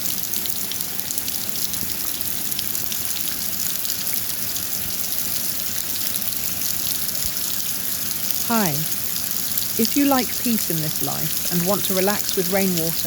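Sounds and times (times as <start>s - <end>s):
raindrops ticking on a surface: 0.0s - 13.0s
steady rainfall: 0.0s - 13.0s.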